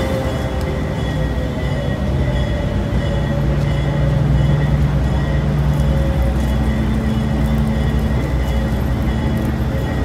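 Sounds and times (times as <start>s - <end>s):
subway cars rolling on track: 0.0s - 10.0s.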